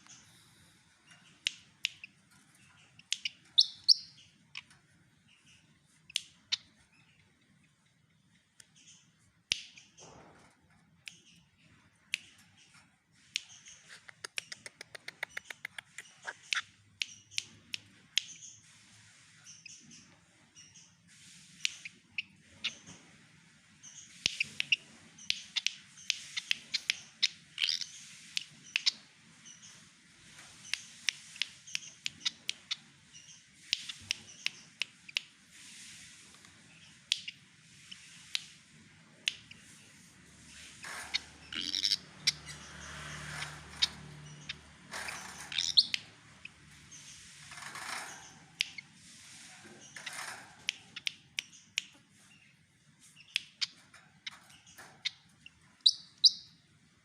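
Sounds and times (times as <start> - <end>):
bird chirping and clicking: 0.0 - 18.6, 19.4 - 23.0, 23.6 - 57.0.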